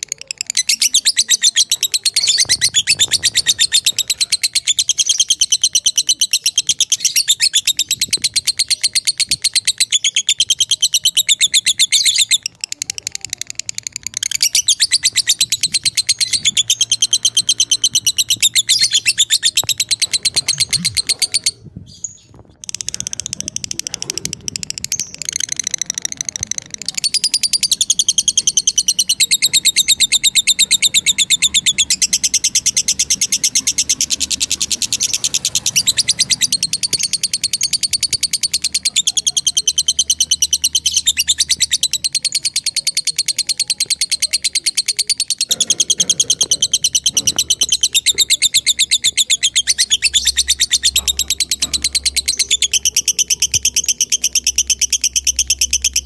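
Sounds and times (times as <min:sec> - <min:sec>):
bird chattering trill: 0:00.0 - 0:56.0.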